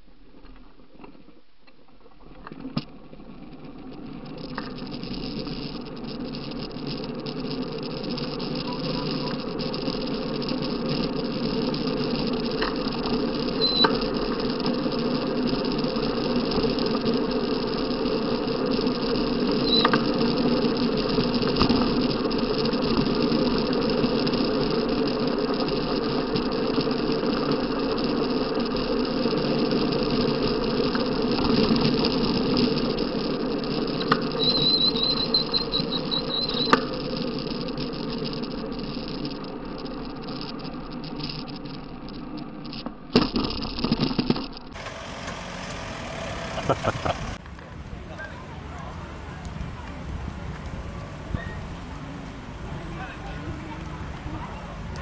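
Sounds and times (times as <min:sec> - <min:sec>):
cart rumbling and rattling: 0:01.9 - 0:55.0.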